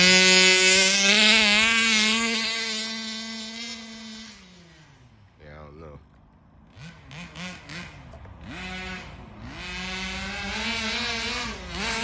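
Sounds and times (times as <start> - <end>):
small two-stroke engine revving: 0.0 - 5.4, 6.6 - 12.0.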